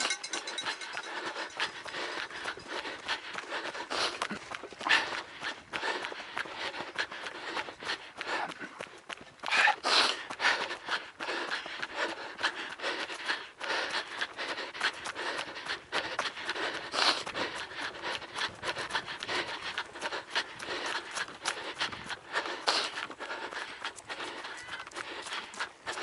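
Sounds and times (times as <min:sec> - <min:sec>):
hard rasping breathing: 0:00.0 - 0:26.0
running footsteps: 0:00.0 - 0:26.0.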